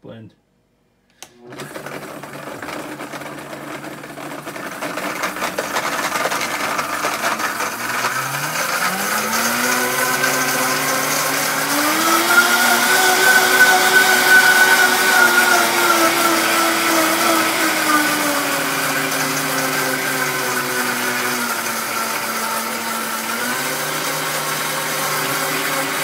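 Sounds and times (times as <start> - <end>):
blender motor chopping: 1.2 - 26.0.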